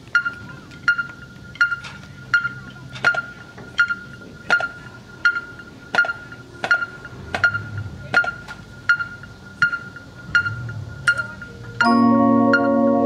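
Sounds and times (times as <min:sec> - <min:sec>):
metronome beeping: 0:00.0 - 0:13.0.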